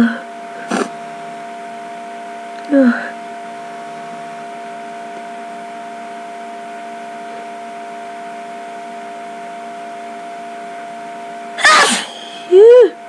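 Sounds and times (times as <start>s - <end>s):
constant multi-pitch hum: 0.0s - 13.0s.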